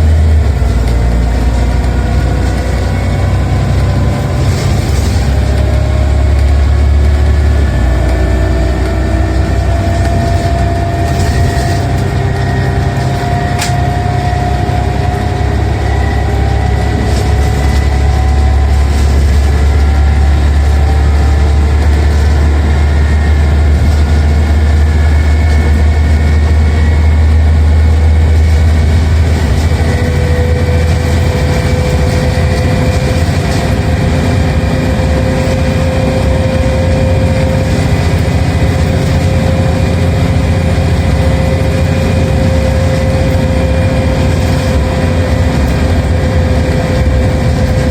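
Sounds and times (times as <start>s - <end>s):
bus engine droning: 0.0s - 47.9s
gearbox whine rising: 0.0s - 47.9s.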